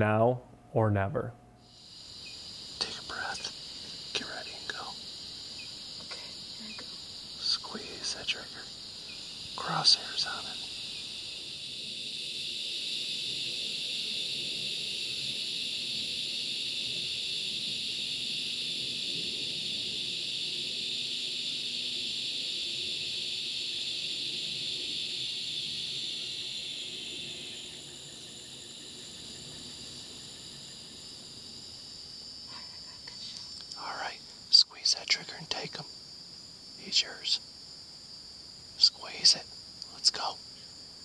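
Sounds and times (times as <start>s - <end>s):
high-pitched insect chorus: 1.6s - 41.0s.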